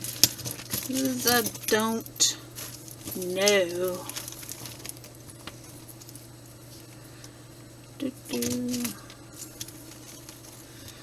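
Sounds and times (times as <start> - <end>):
jewelry clicking and rustling: 0.0 - 11.0
steady low hum: 0.0 - 11.0.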